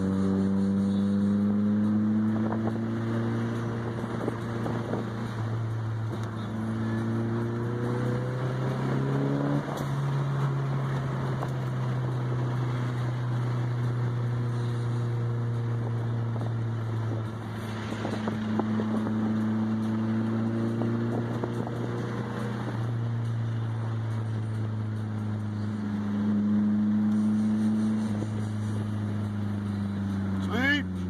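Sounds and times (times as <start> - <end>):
car engine running: 0.0 - 31.0
road and wind noise: 0.0 - 31.0.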